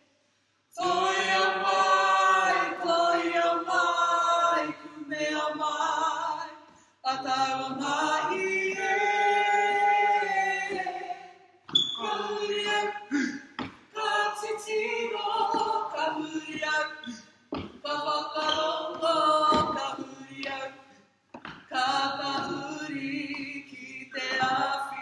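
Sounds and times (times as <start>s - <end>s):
group singing unaccompanied: 0.7s - 25.0s.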